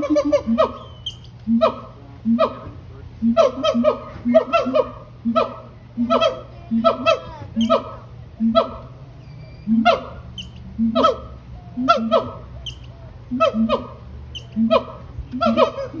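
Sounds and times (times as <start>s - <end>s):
monkey calling with booms and whoops: 0.0s - 16.0s.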